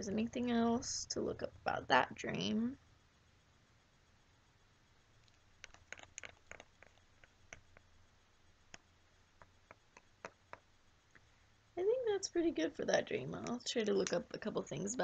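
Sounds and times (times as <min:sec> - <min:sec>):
quiet room hum: 0:00.0 - 0:15.0.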